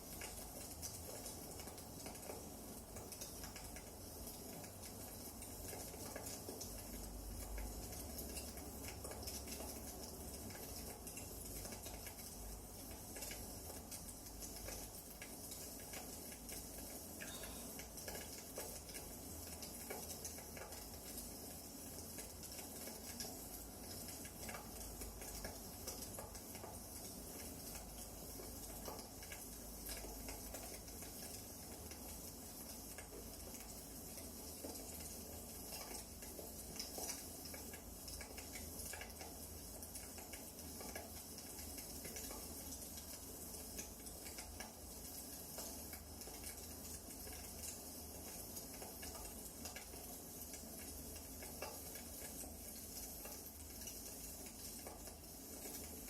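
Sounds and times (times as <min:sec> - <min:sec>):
firewood crackling in fireplace: 0:00.0 - 0:56.0.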